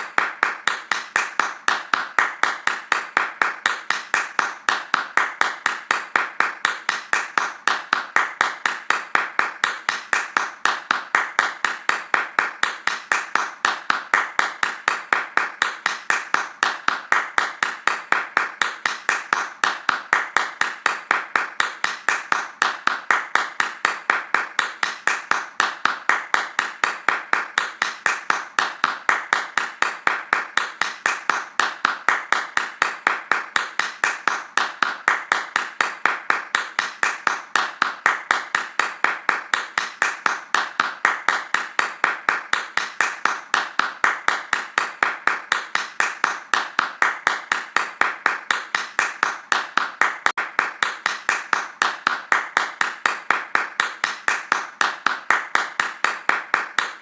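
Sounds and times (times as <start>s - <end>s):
hands clapping fast: 0.0s - 57.0s.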